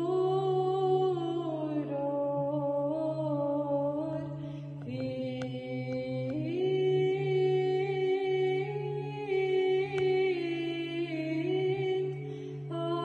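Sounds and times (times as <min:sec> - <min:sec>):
woman singing chant: 0:00.0 - 0:13.0.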